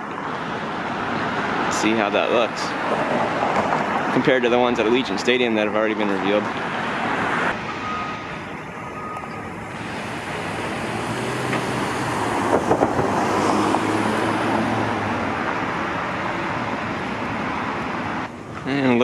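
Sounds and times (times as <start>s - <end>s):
passing vehicle engine hum: 0.0s - 19.0s
road traffic: 0.0s - 19.0s.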